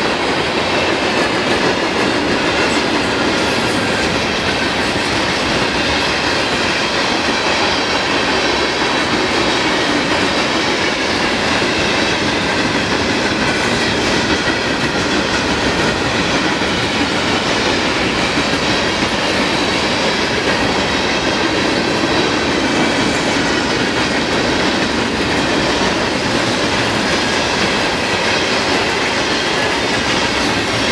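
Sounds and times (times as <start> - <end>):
train wheels rolling on track: 0.0 - 30.9.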